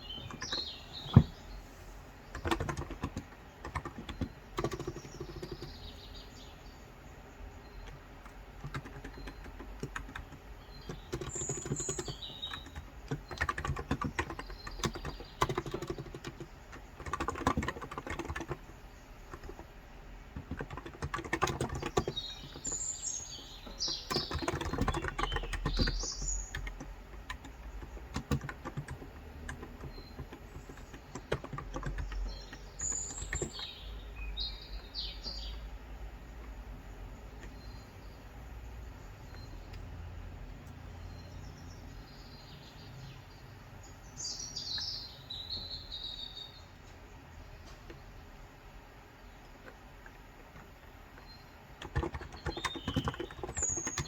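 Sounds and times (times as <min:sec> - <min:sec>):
soft keyboard typing: 0:00.0 - 0:01.5, 0:02.2 - 0:06.5, 0:07.4 - 0:41.2, 0:49.0 - 0:54.0
birds chirping: 0:00.0 - 0:54.0.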